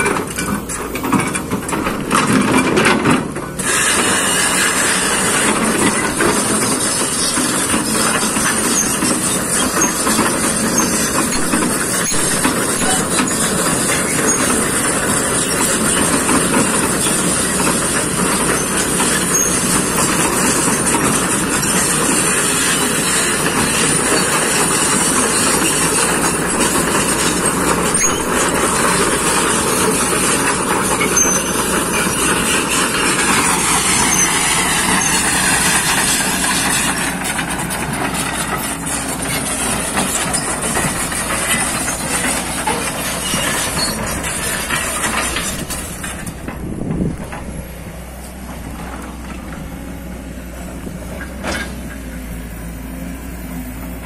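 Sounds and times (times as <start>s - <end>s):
excavator diesel engine and hydraulics: 0.0s - 54.0s.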